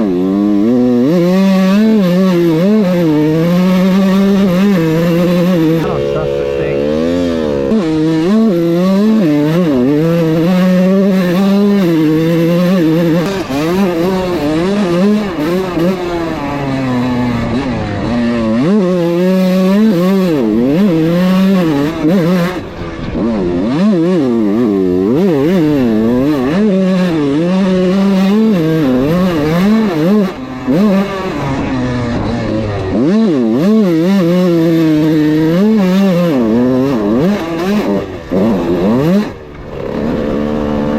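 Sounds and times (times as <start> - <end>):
dirt bike engine revving: 0.0 - 40.9
engine crunching noise: 0.0 - 40.9.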